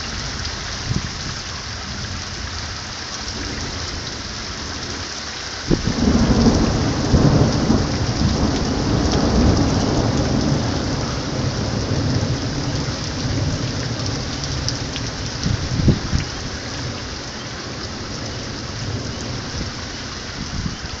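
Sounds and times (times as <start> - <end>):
steady rain falling: 0.0 - 21.0
thunder rumbling: 0.0 - 21.0.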